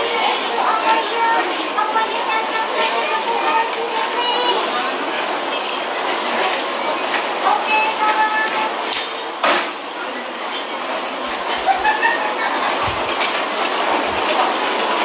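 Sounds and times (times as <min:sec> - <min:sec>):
faint distant voices: 0:00.0 - 0:15.0
rushing hum of airport hall: 0:00.0 - 0:15.0.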